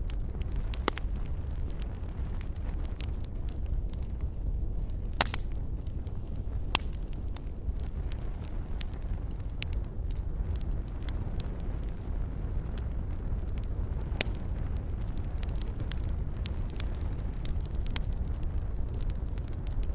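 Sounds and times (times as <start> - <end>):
wood fire crackling in fireplace: 0.0 - 19.9.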